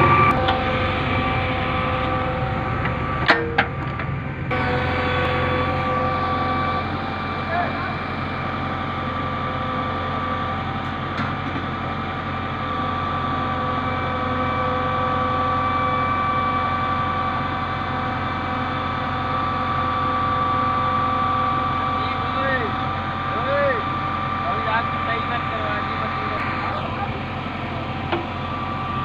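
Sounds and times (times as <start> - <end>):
diesel engine running: 0.0 - 29.0
hydraulic whine: 0.0 - 29.0.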